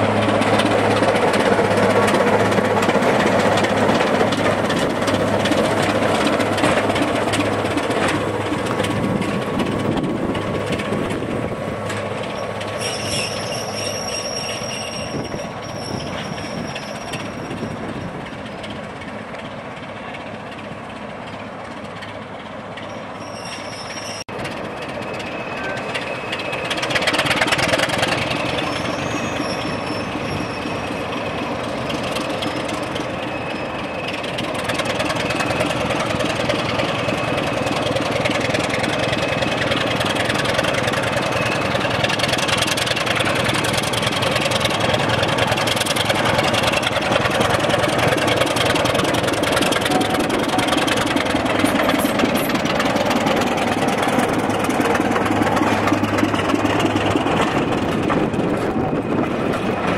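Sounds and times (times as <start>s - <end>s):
diesel locomotive engine: 0.0s - 59.9s.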